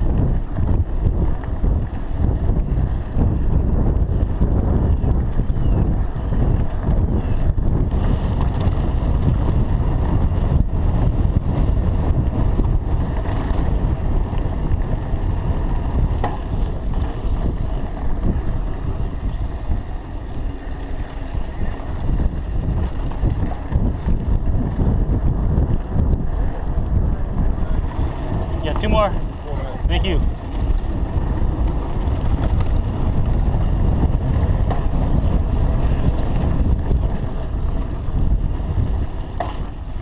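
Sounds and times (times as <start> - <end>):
bike rattling over bumps: 0.0 - 40.0
bike tyres on dirt: 0.0 - 40.0
wind buffeting microphone: 0.0 - 40.0.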